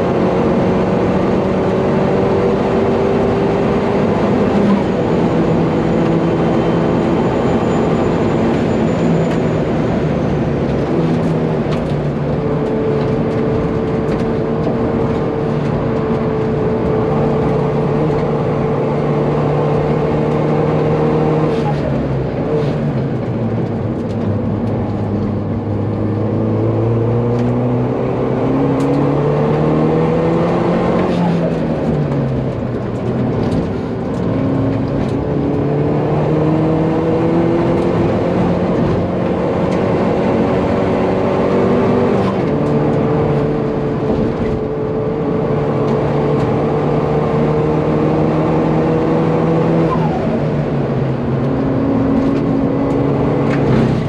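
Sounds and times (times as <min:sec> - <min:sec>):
car engine revving under load: 0:00.0 - 0:54.0.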